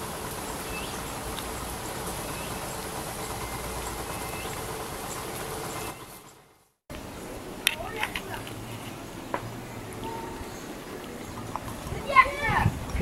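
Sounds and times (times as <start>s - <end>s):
low rumble with hiss: 0.0s - 13.0s.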